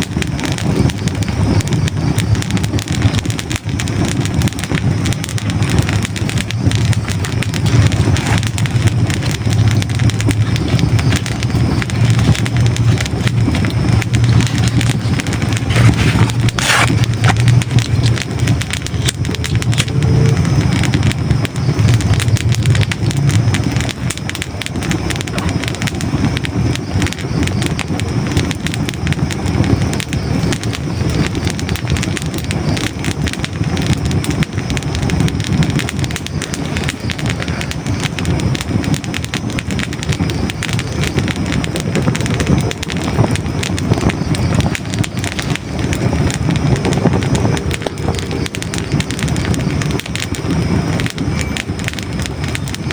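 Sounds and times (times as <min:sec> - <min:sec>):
fire burning with low rumble: 0:00.0 - 0:52.9
logs crackling and popping: 0:00.0 - 0:52.9.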